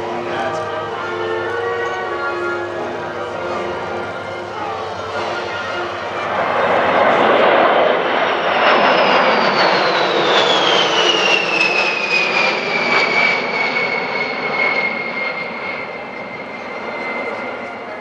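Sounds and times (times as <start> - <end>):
high jet whine falling in pitch: 0.0 - 18.0
jet engines roaring: 0.0 - 18.0.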